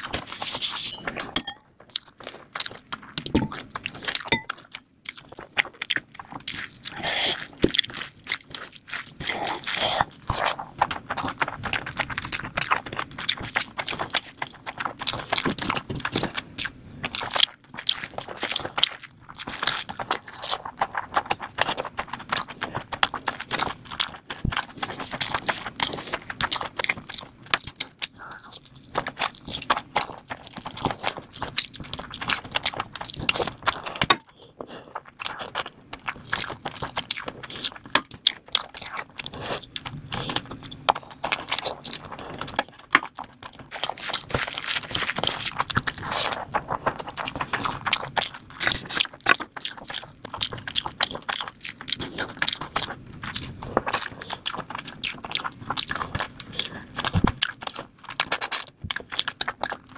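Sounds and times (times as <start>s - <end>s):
wet chewing with mouth clicks: 0.0s - 59.9s.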